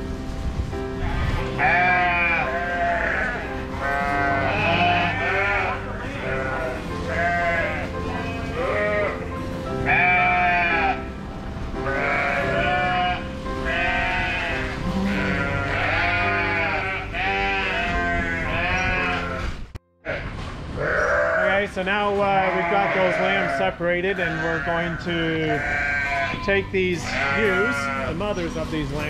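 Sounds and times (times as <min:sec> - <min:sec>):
background music with held notes: 0:00.0 - 0:20.2, 0:20.8 - 0:29.0
sheep and lambs bleating: 0:01.0 - 0:11.1, 0:11.7 - 0:29.0.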